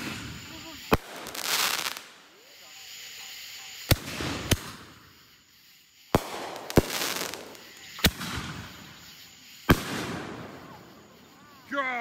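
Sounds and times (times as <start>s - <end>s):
fireworks bangs: 0.0s - 11.3s
hiss of sparks: 0.0s - 12.0s.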